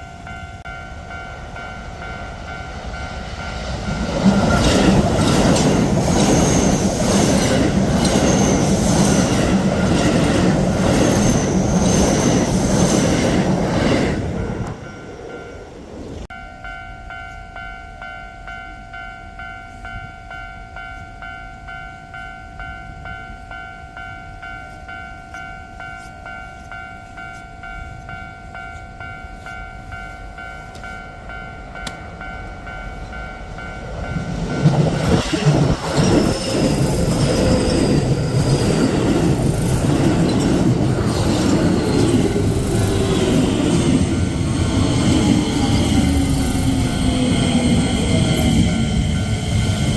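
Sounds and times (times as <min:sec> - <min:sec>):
crossing warning bell two-tone chime: 0:00.0 - 0:13.4, 0:14.4 - 0:49.9
train passing over crossing: 0:00.0 - 0:49.9.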